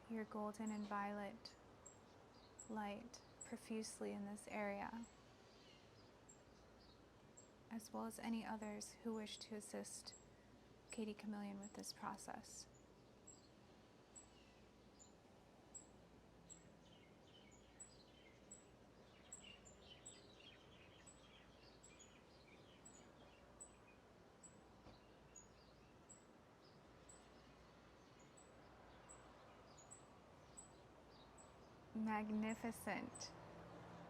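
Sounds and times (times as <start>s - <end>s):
faint bird chirps: 0.2s - 33.3s.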